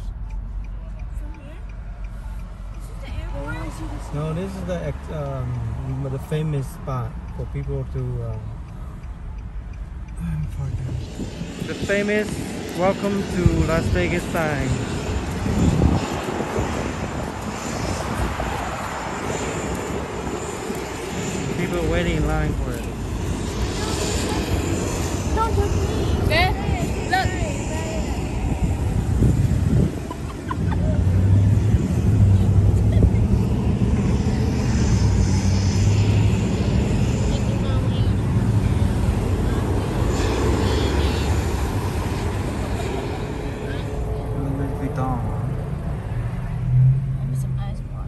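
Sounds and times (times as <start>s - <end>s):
jet airliner engines: 0.0s - 48.0s
road traffic passing: 0.0s - 48.0s.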